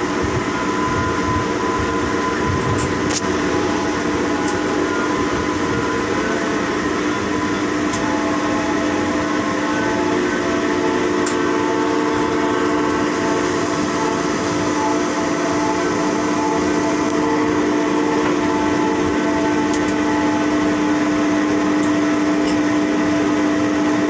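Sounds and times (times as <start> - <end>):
crane machinery hum: 0.0 - 24.0.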